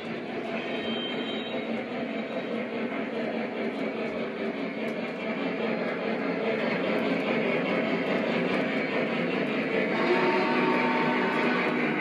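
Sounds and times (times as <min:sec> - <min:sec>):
model train rumbling on rails: 0:00.0 - 0:12.0.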